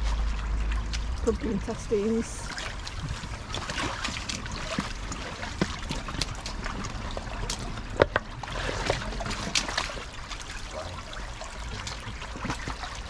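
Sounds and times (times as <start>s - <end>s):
brook water trickling: 0.0s - 13.0s
wading and stirring splashes: 0.0s - 13.0s.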